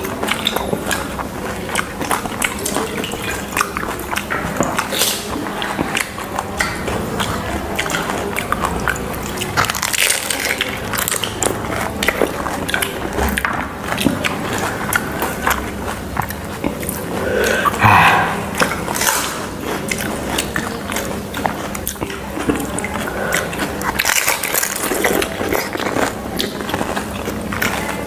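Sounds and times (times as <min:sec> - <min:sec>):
wet slurping: 0:00.0 - 0:13.4, 0:14.0 - 0:28.0.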